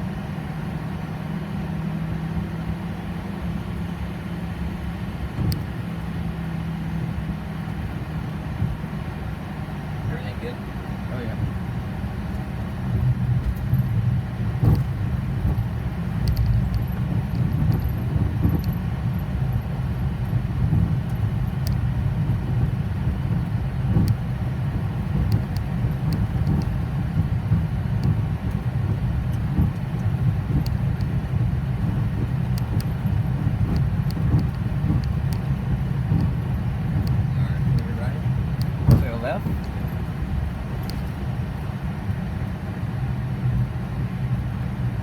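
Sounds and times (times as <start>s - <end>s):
jet engines idling: 7.2s - 45.0s.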